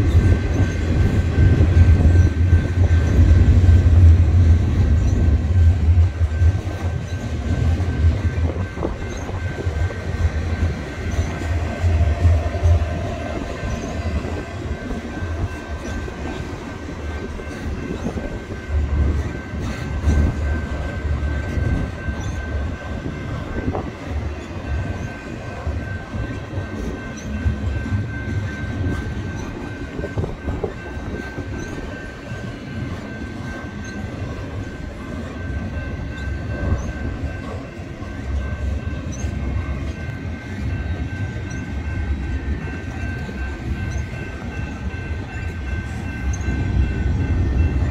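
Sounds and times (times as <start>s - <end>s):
freight train wheels rumbling on rail: 0.0s - 47.9s.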